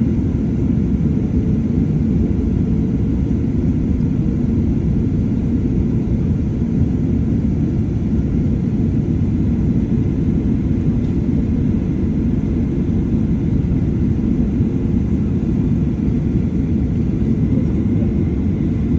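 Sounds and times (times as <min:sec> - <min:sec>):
aircraft cabin engine rumble: 0:00.0 - 0:18.9.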